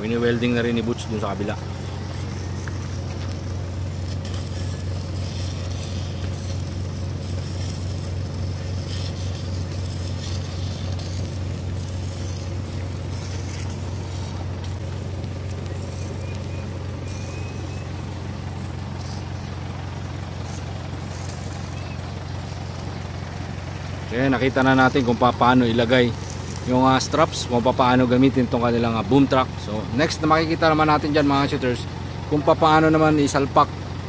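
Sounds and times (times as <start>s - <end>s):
arc welding crackle: 0.0s - 34.0s
truck engine idling: 0.0s - 34.0s.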